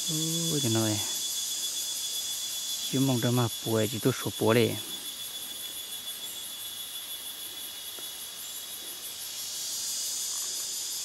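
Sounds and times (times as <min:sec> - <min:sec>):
louder insect buzz: 0:00.0 - 0:03.7, 0:04.8 - 0:11.0
fast pulsing insect trill: 0:00.0 - 0:11.0
forest insects buzzing: 0:00.0 - 0:11.0.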